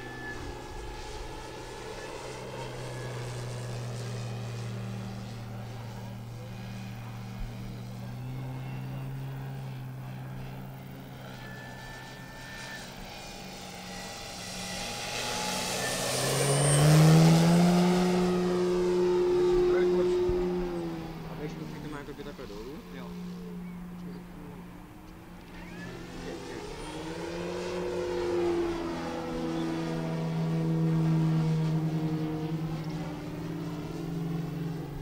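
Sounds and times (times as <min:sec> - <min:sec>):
model plane propeller hum: 0:00.0 - 0:35.0.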